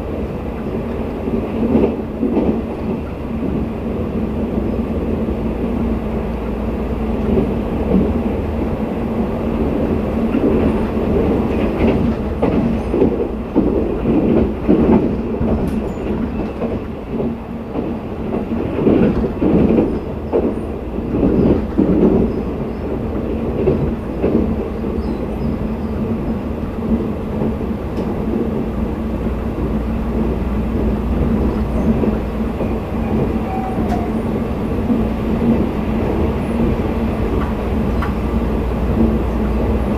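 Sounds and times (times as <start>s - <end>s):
train coach rumble and hum: 0.0s - 39.9s.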